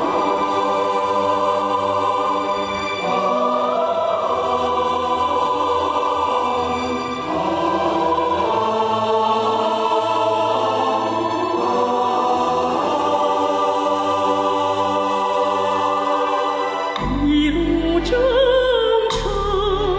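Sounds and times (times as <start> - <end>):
choir singing held notes: 0.0 - 17.1.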